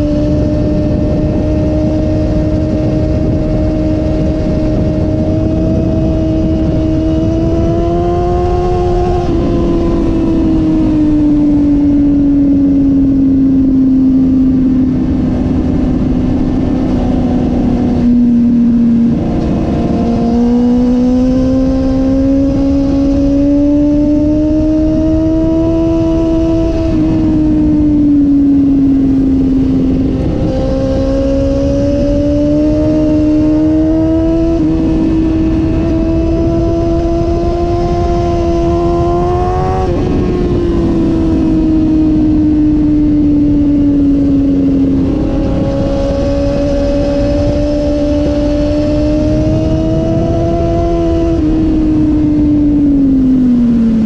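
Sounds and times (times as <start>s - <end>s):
motorcycle engine: 0.0s - 54.0s
wind rush: 0.0s - 54.0s.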